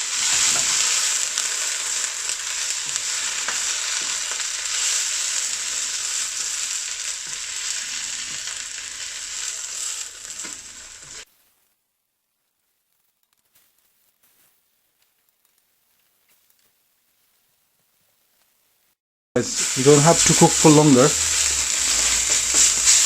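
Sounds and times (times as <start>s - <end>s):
leaves sizzling in hot oil: 0.0s - 11.8s, 15.6s - 23.0s.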